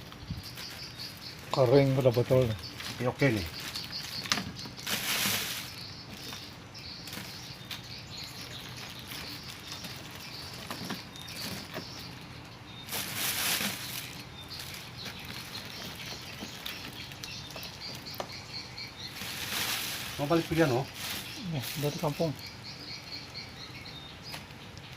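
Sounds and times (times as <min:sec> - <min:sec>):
dry nests rustling in hands: 0:00.0 - 0:24.9.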